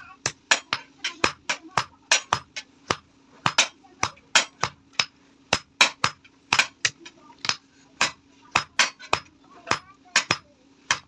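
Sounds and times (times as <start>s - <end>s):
hammer striking hot iron on anvil: 0.2s - 11.0s.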